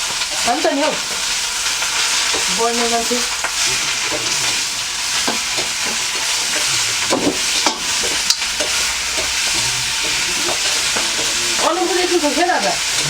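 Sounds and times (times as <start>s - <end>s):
dense sizzling hiss: 0.0s - 13.0s.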